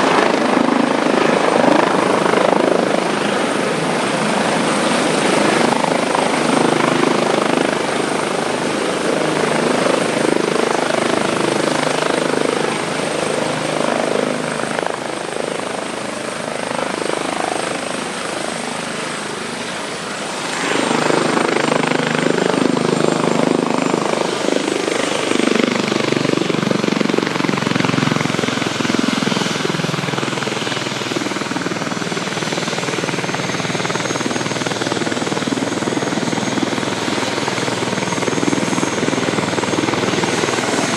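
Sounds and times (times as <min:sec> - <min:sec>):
helicopter rotors beating: 0:00.0 - 0:40.9.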